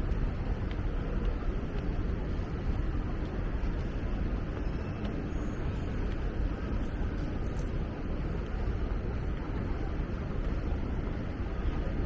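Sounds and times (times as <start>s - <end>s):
city street ambience rumble: 0.0s - 12.0s.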